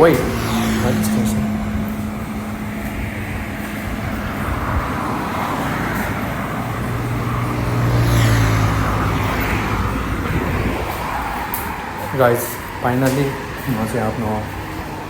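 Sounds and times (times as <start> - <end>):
steady traffic noise: 0.0 - 15.0
vehicle engine passing: 0.0 - 15.0.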